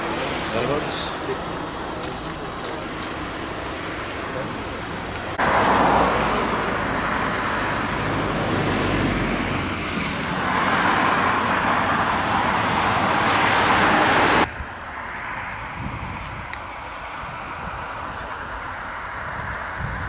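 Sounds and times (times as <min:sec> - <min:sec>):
car passing close by: 0:00.0 - 0:20.0
cars passing on road: 0:00.0 - 0:20.0.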